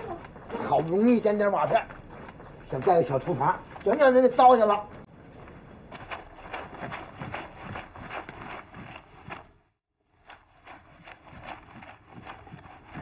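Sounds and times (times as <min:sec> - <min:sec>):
laundry scrubbed by hand: 0:00.0 - 0:05.1, 0:05.8 - 0:13.0.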